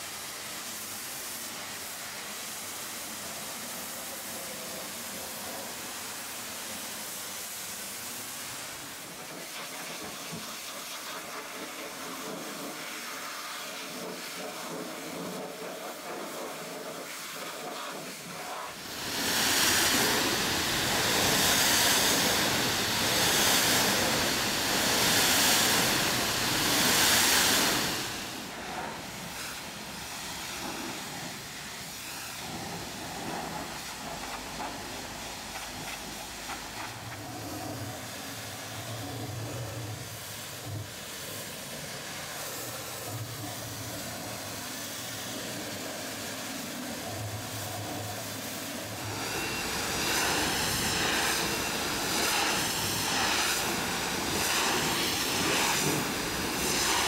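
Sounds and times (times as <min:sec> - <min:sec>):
pressure washer jet spraying: 0:00.0 - 0:57.0.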